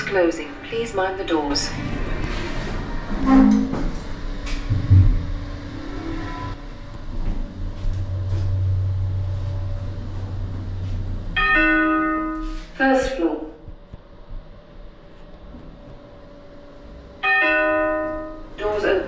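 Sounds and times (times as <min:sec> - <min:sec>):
lift car humming: 0:00.0 - 0:19.0.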